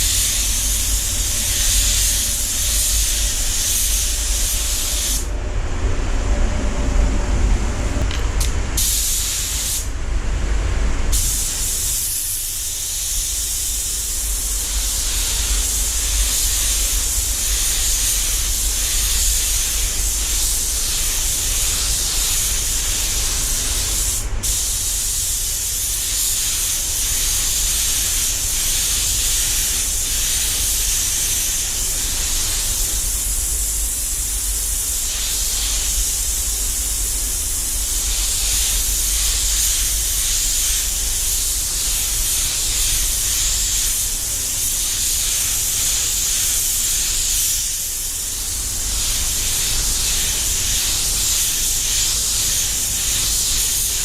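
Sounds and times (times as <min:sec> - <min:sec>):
spray gun hissing: 0:00.0 - 0:05.3, 0:08.3 - 0:09.9, 0:11.1 - 0:54.0.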